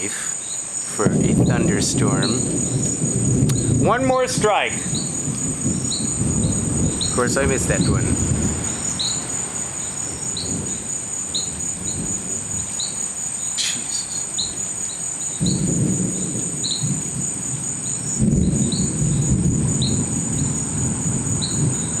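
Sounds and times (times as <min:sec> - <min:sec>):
crickets and night insects calling: 0:00.0 - 0:22.0
low thunder rumbles: 0:00.8 - 0:22.0.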